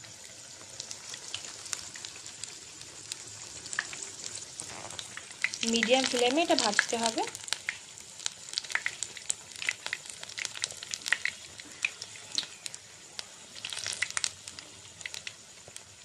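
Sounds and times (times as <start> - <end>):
oil sizzling and popping: 0.0 - 16.0.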